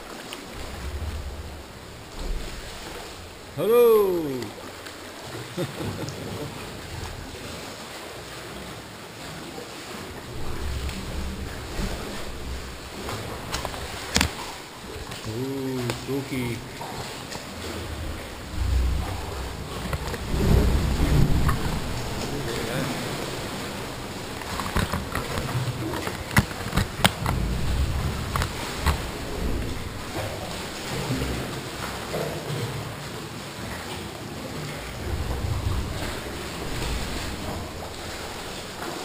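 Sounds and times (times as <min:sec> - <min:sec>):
deep low water surges: 0:00.0 - 0:39.0
sea swell sloshing against rocks: 0:00.0 - 0:39.0.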